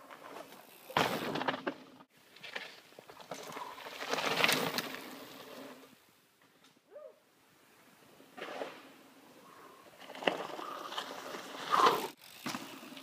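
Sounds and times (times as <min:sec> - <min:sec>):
bike tyres crunching over dirt: 0:00.0 - 0:06.6, 0:08.1 - 0:13.0.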